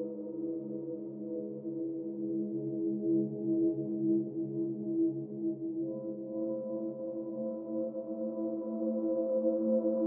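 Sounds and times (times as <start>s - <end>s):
slow ambient music: 0.0s - 10.0s.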